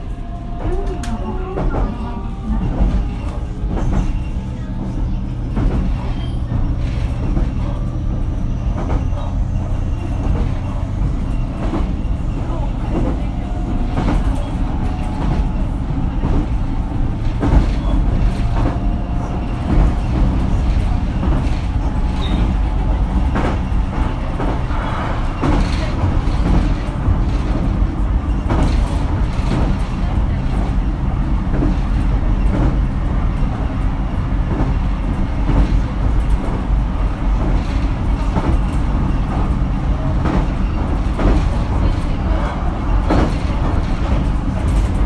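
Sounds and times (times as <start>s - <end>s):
train interior rumble: 0.0s - 45.0s.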